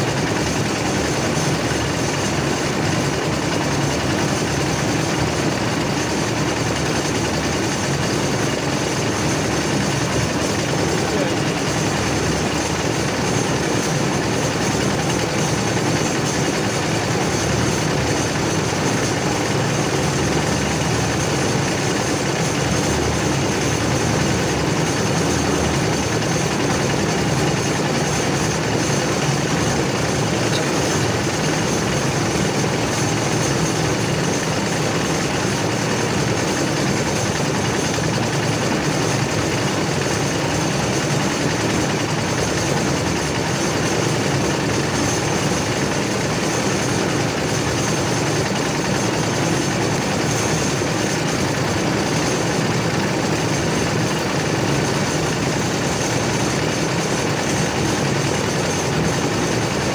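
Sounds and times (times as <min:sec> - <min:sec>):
concrete mixer engine running: 0:00.0 - 0:59.9.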